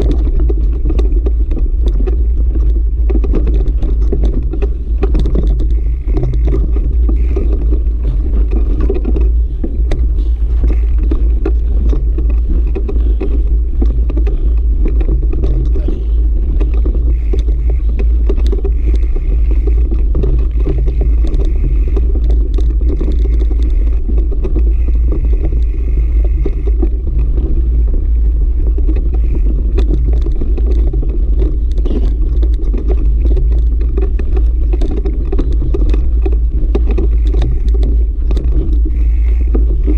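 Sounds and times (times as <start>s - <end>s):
bike knocking and rattling: 0.0s - 39.9s
wind rumble on microphone: 0.0s - 39.9s.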